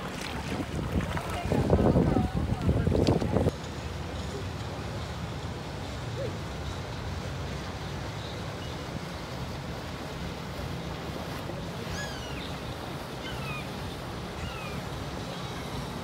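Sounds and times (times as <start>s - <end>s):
boat engine rumble: 0.0s - 16.0s
water wash: 0.0s - 16.0s
wind: 0.0s - 16.0s.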